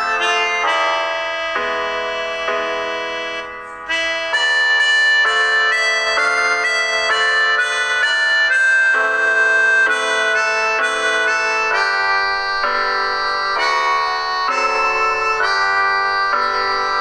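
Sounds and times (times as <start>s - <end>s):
free-reed instrument holding chords: 0.0s - 17.0s.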